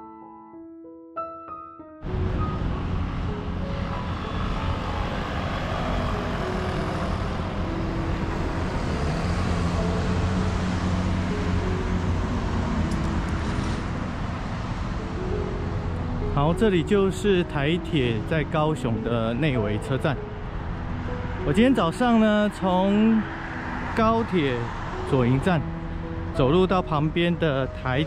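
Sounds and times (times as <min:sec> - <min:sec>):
road traffic rumble: 0:02.0 - 0:28.0.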